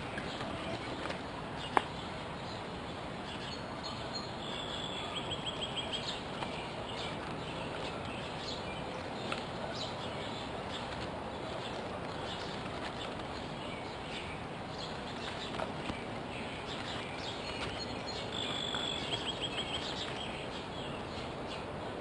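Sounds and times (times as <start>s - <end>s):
songbirds chirping: 0.0s - 22.0s
steady background noise: 0.0s - 22.0s.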